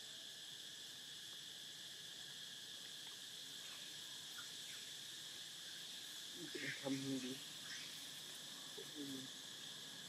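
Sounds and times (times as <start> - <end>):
faint insect chorus trill: 0.0 - 10.0.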